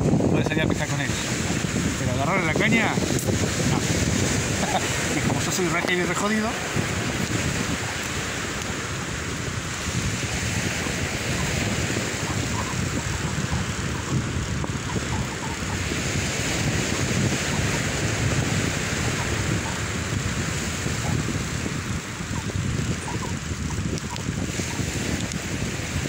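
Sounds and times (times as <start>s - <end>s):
surf breaking on beach: 0.0s - 26.0s
wind buffeting microphone: 0.0s - 26.0s.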